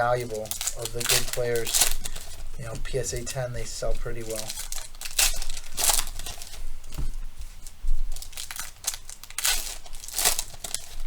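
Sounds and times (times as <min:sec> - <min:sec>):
wrappers tearing and crinkling: 0:00.0 - 0:11.0.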